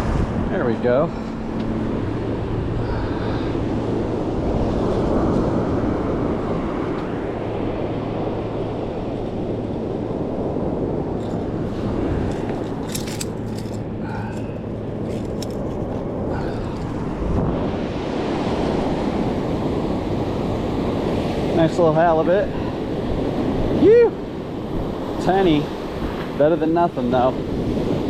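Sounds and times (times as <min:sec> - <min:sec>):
ocean surf washing on beach: 0:00.0 - 0:28.0
wind buffeting microphone: 0:00.0 - 0:28.0.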